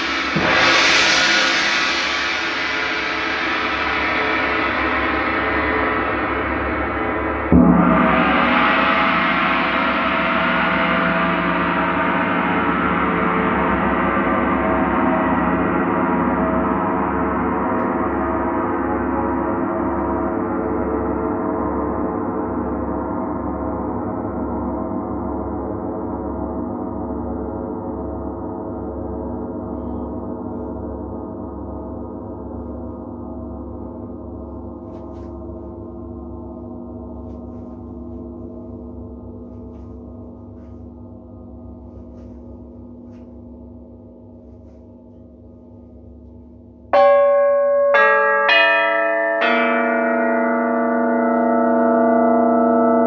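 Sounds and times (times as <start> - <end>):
gong struck: 0.0 - 53.0
large gong ringing: 0.0 - 53.0.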